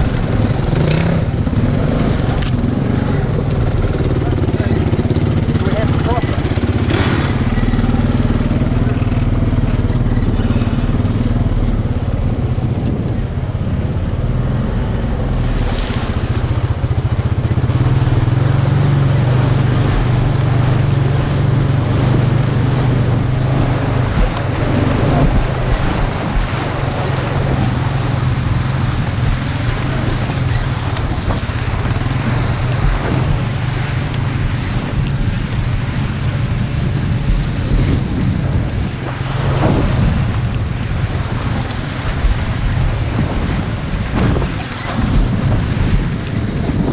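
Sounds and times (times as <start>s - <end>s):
quad bike engine running: 0.0s - 46.9s
water rushing and splashing: 0.0s - 46.9s
wind buffeting microphone: 0.0s - 46.9s.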